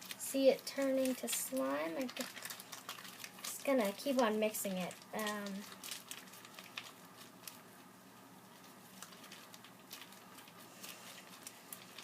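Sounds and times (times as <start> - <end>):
plastic bag crinkling and squishing: 0.0 - 12.0.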